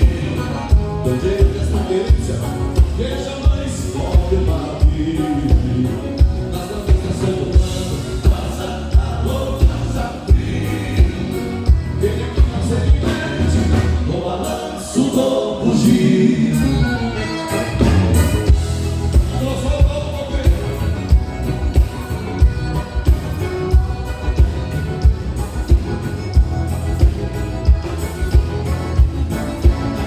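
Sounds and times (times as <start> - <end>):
bass drum beat: 0.0 - 14.1, 17.7 - 30.0
regional band playing live: 0.0 - 30.0.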